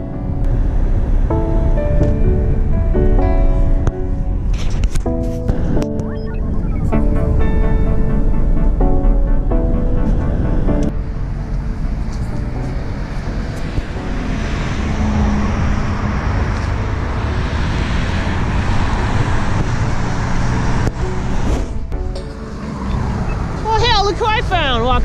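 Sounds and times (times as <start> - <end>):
road traffic: 0.0 - 25.0.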